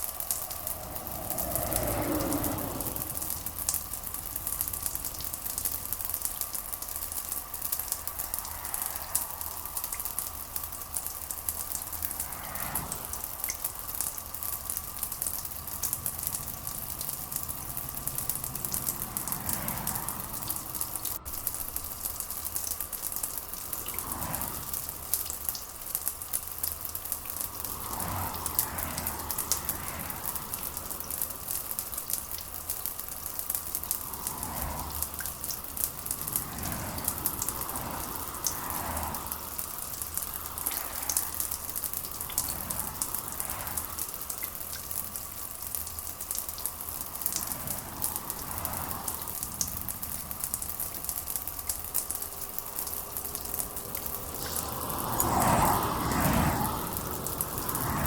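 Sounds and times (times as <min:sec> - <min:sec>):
rain patter: 0:00.0 - 0:58.0.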